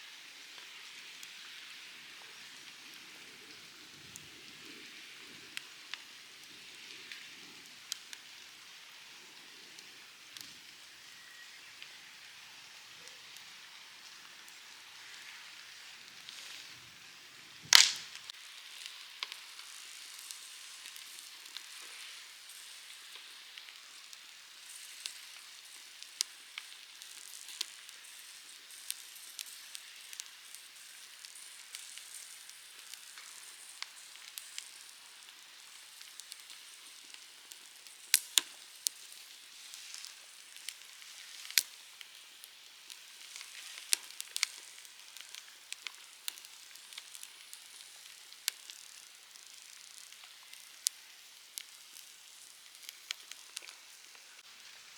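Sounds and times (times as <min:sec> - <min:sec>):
campfire crackling and popping: 0:00.1 - 0:54.9.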